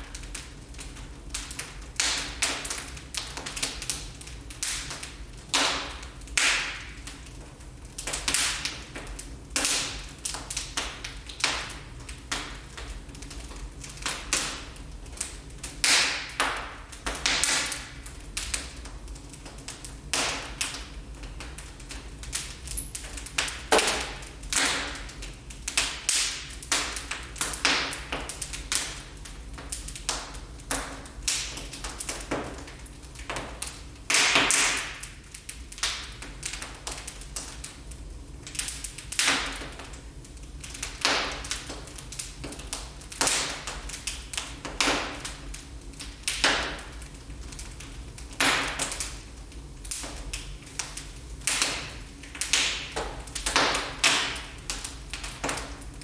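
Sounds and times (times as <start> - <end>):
low fire rumble: 0.0 - 56.0
wood fire crackling: 0.0 - 56.0
sharp snaps and pops: 0.1 - 56.0.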